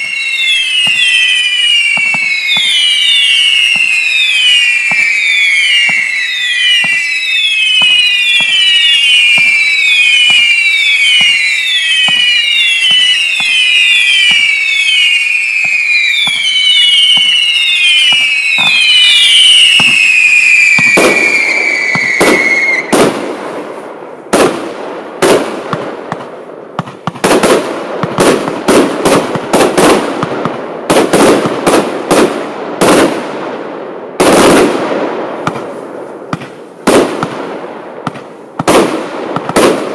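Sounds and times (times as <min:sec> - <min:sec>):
firework bangs and bursts: 0:00.0 - 0:39.9
whistling firework shots: 0:00.0 - 0:39.9.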